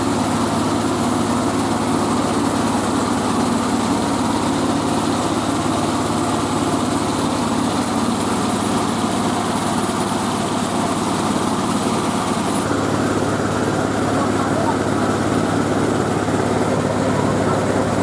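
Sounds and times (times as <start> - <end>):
rice-milling machine running: 0.0 - 18.0.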